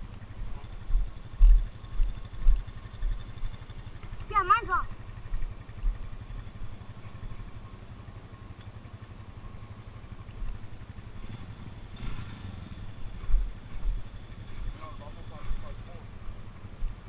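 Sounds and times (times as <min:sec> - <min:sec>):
atv engine humming: 0:00.0 - 0:17.0.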